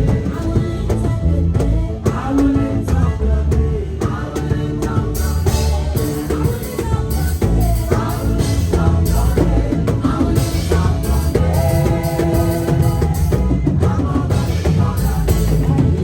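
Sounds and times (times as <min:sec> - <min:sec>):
drum kit: 0:00.0 - 0:16.0
heavy bass line: 0:00.0 - 0:16.0
live band music: 0:00.0 - 0:16.0.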